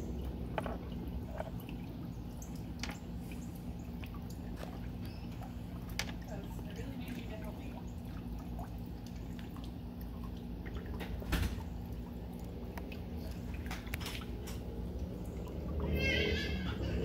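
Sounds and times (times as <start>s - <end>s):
steady low hum: 0.0s - 17.0s
water dripping: 0.0s - 17.0s.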